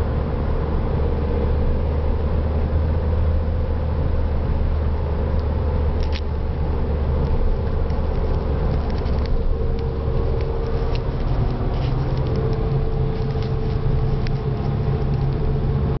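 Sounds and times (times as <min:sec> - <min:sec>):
diesel engine exhaust drone: 0:00.0 - 0:16.0.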